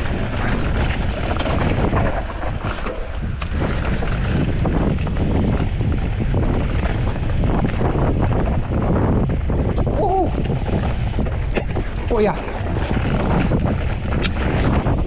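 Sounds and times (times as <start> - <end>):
bike rattling and clicking: 0.0 - 15.0
wind buffeting microphone: 0.0 - 15.0.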